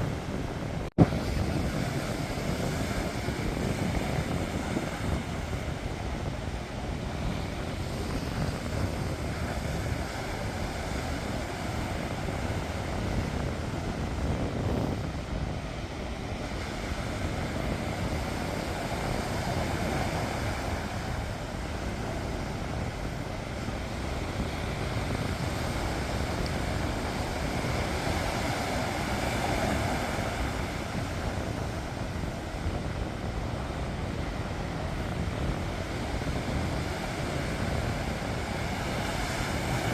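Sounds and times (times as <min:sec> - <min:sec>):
sea surf washing on shore: 0:00.0 - 0:39.9.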